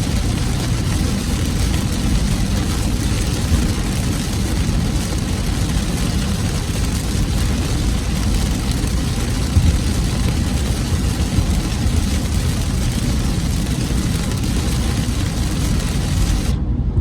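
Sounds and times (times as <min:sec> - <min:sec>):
rain hissing on a car: 0:00.0 - 0:16.6
road and engine rumble: 0:00.0 - 0:17.0.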